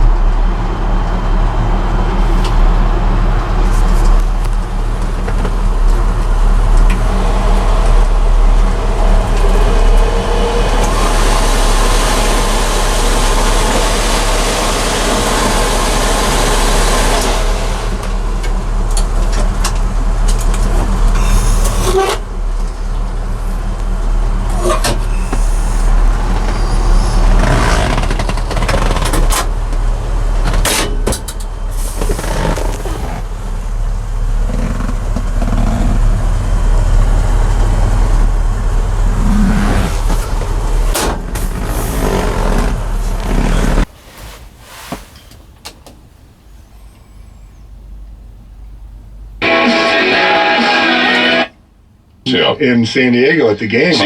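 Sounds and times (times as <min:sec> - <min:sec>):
broad rushing noise: 0:00.0 - 0:05.4, 0:07.0 - 0:45.2
truck engine running: 0:00.0 - 0:52.7.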